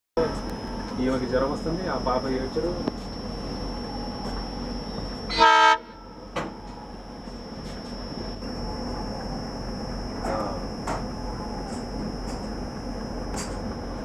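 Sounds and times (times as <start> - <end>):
diesel locomotive horn toot: 0.2 - 14.0
diesel locomotive idling: 0.2 - 14.0.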